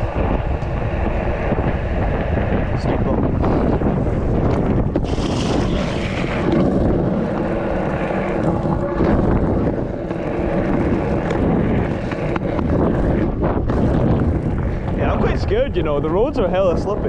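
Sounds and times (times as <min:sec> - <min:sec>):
scooter wheels rolling on asphalt: 0:00.0 - 0:17.0
wind buffeting microphone: 0:00.0 - 0:17.0.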